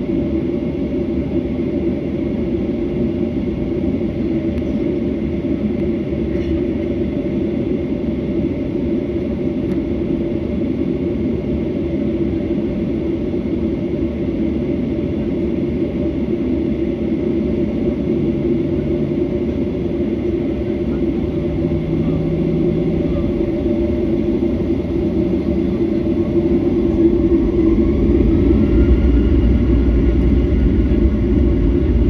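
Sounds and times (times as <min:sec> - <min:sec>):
jet engines humming in cabin: 0:00.0 - 0:32.0.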